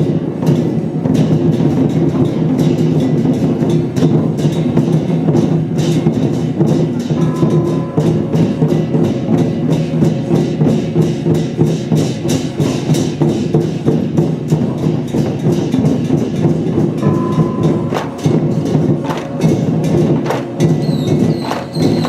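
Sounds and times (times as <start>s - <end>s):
percussion band drum and cymbals: 0.0s - 22.0s.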